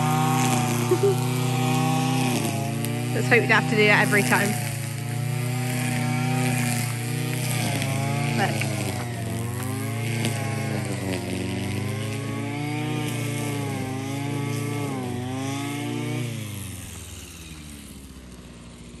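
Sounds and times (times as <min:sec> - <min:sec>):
grass strimmer engine running: 0:00.0 - 0:19.0.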